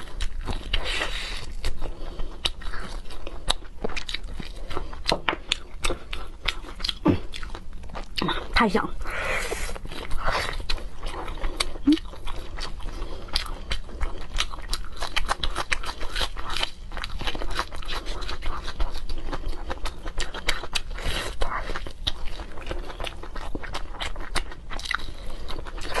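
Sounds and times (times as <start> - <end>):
chewing ribs: 0.0 - 26.0.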